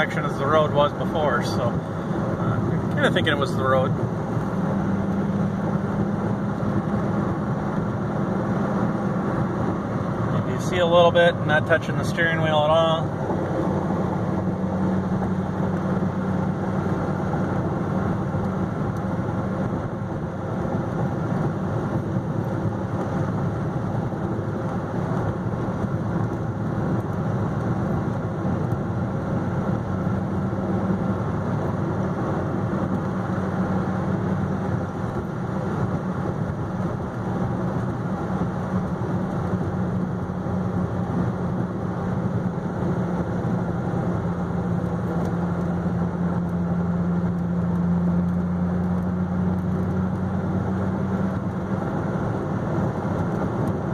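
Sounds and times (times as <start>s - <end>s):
car engine cruising: 0.0s - 53.9s
tyre and road noise: 0.0s - 53.9s.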